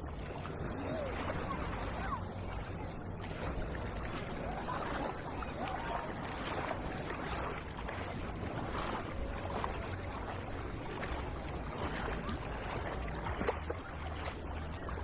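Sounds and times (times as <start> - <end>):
faint distant voices: 0.0 - 15.0
sea wash: 0.0 - 15.0.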